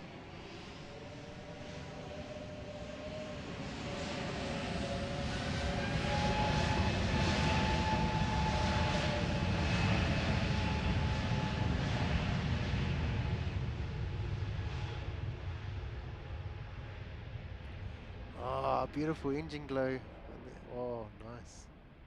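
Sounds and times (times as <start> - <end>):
jet engines roaring on takeoff: 0.0 - 22.0.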